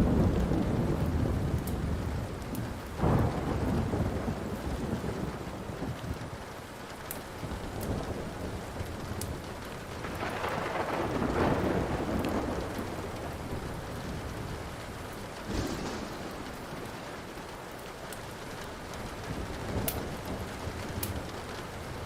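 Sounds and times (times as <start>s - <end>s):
wood fire crackling and popping: 0.0s - 3.5s, 4.2s - 22.0s
thunder rolling: 0.0s - 6.4s, 7.4s - 22.0s
steady rain: 0.0s - 22.0s.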